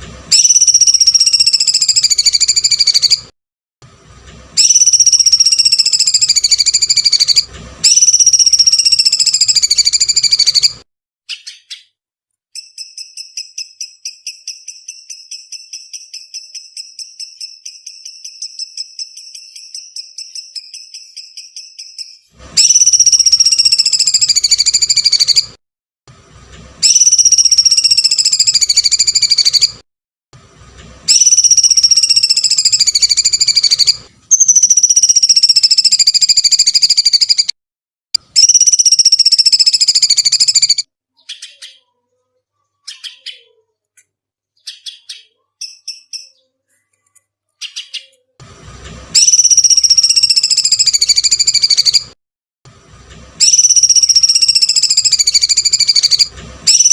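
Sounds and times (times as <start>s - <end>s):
bird chirps: 0.3s - 3.3s, 4.6s - 25.5s, 26.8s - 29.8s, 31.1s - 37.5s, 38.2s - 48.4s, 49.2s - 52.2s, 53.4s - 56.9s.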